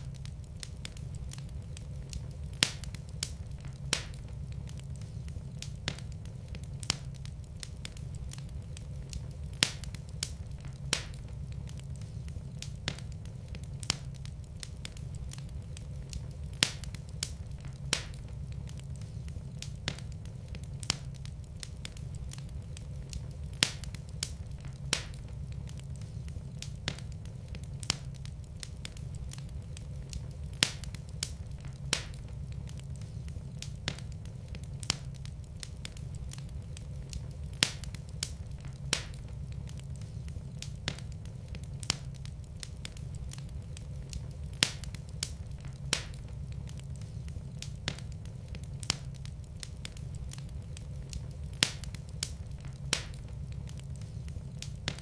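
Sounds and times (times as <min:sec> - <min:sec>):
low rumble of flame: 0:00.0 - 0:55.0
wood fire crackling and popping: 0:00.0 - 0:55.0.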